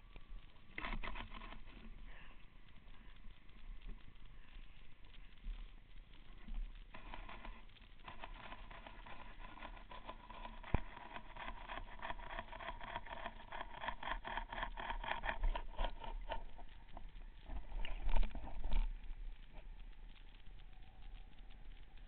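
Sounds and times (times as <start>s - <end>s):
sharp underwater clicks and taps: 0.7s - 20.4s.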